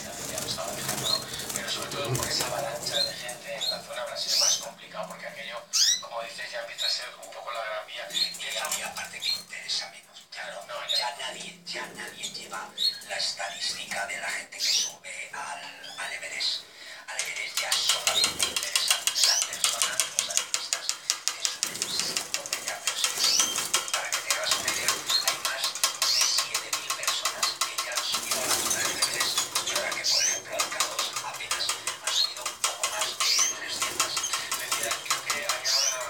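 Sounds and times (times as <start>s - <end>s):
canaries trilling: 0.0s - 36.0s.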